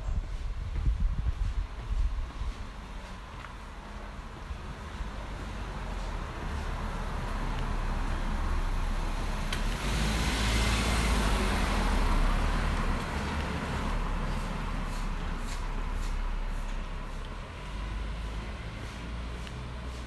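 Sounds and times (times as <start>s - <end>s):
car passing by: 2.5s - 20.0s.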